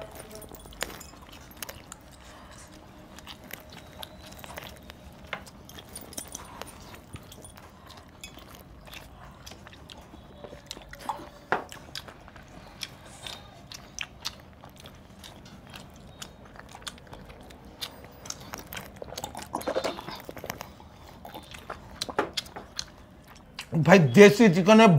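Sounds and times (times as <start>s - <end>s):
person chewing meat: 0.0s - 23.9s.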